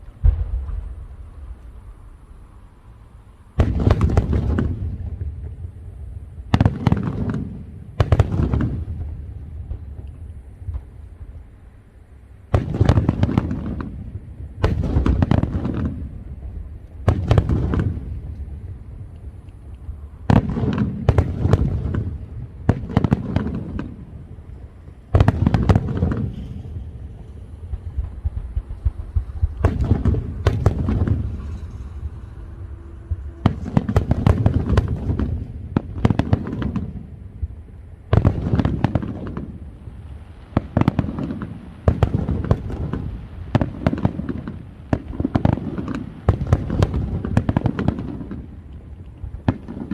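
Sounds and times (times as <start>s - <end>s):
fireworks booming and crackling: 0.0s - 49.9s.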